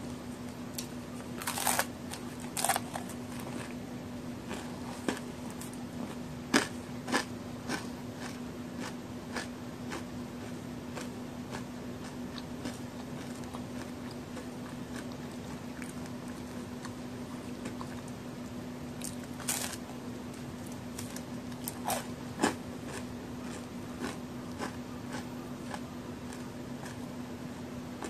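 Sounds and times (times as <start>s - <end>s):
steady low hum: 0.0s - 28.0s
cookie crunching: 0.1s - 3.8s, 4.4s - 27.1s.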